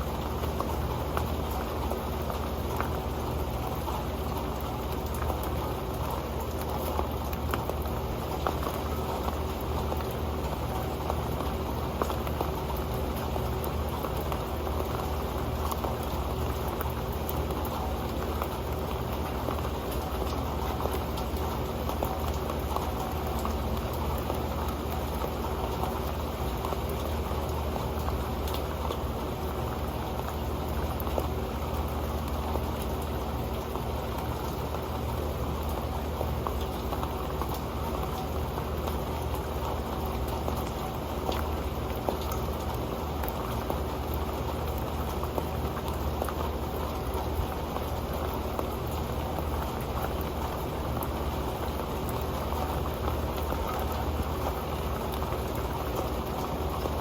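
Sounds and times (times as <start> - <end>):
low rumble of rain: 0.0 - 57.0
raindrops ticking on metal pan: 0.0 - 57.0.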